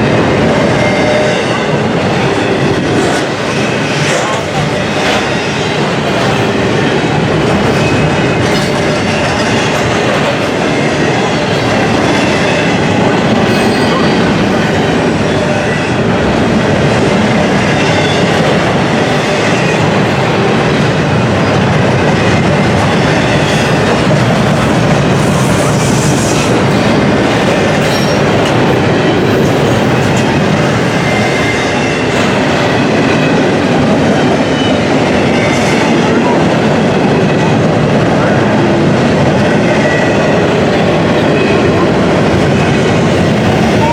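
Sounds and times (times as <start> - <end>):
clickety-clack over rail joints: 0.0 - 43.9
steel wheels rumbling on rail: 0.0 - 43.9.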